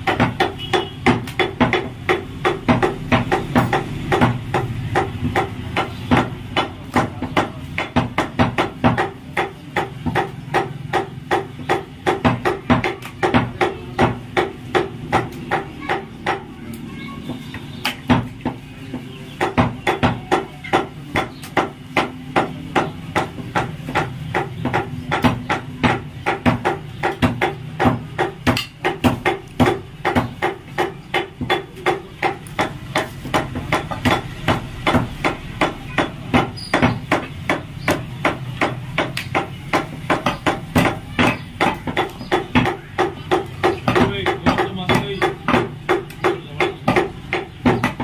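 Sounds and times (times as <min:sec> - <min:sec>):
cleaver chopping meat on wood: 0:00.0 - 0:48.0.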